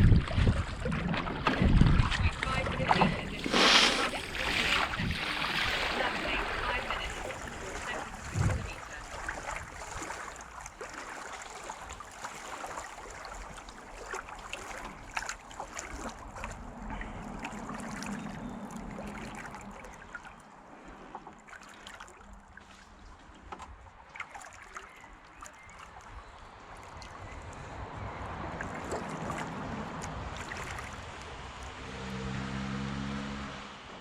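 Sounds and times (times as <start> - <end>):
water drips and splashes: 0.0 - 33.0
water trickling and lapping: 0.0 - 34.0.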